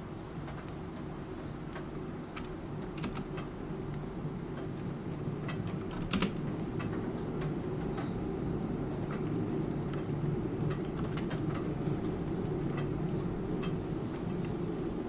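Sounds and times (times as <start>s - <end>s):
low rain-like background noise: 0.0s - 15.0s.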